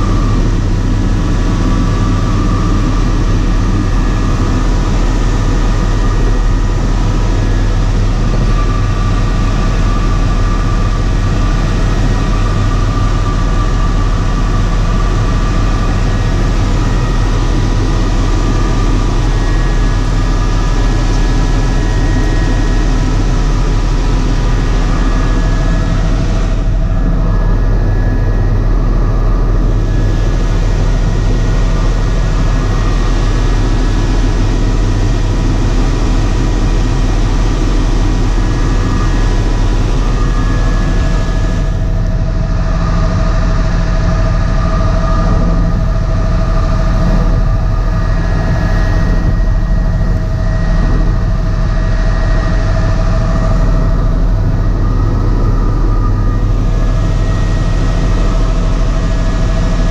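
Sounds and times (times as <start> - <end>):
faint whine: 0.0 - 59.9
helicopter engine and rotor drone: 0.0 - 59.9.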